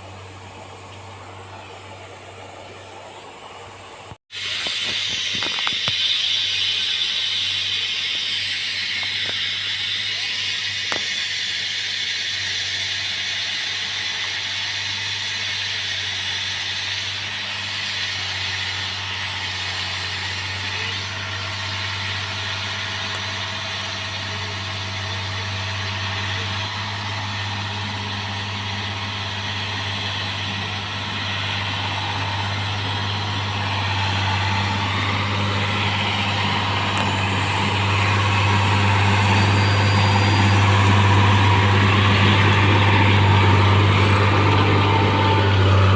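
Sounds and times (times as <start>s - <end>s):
diesel engine droning: 0.0s - 45.9s.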